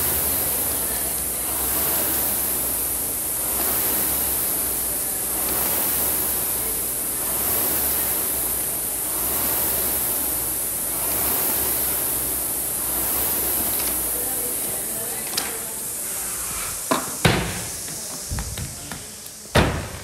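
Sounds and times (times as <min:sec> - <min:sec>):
rowing machine flywheel whooshing: 0:00.0 - 0:20.0.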